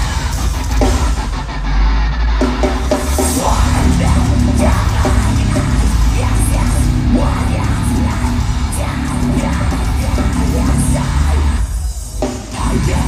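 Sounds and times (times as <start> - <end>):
metalcore band playing: 0.0 - 13.0.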